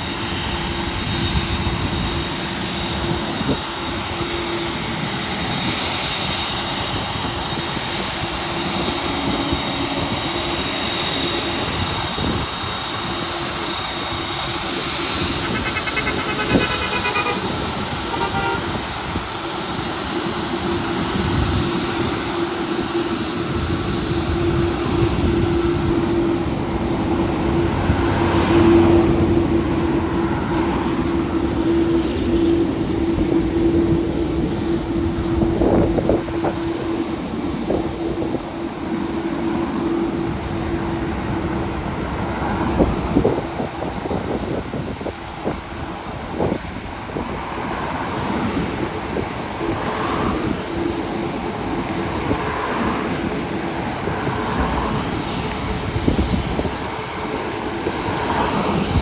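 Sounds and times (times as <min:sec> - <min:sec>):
jet engines rumbling: 0:00.0 - 0:59.0
road traffic: 0:00.0 - 0:59.0.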